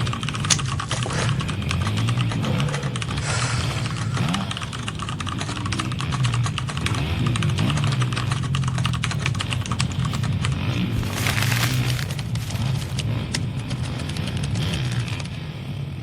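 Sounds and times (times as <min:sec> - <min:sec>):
rapid irregular clicking: 0:00.0 - 0:15.6
steady low hum: 0:00.0 - 0:16.0.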